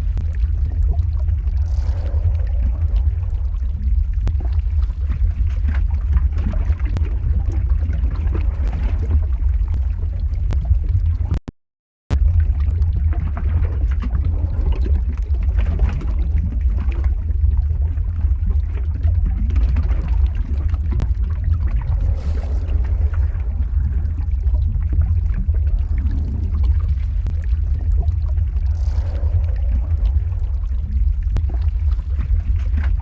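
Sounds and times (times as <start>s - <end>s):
deep rumble: 0.0s - 11.4s, 12.1s - 33.0s
lava crackling and bubbling: 0.0s - 11.4s, 12.1s - 33.0s.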